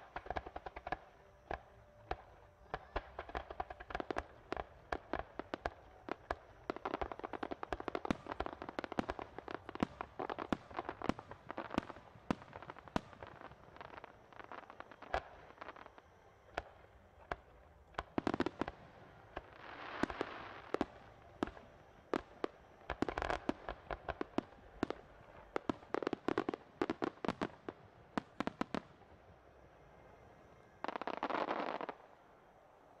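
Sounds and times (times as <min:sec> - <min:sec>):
fireworks bursting: 0:00.0 - 0:29.1, 0:30.7 - 0:32.1.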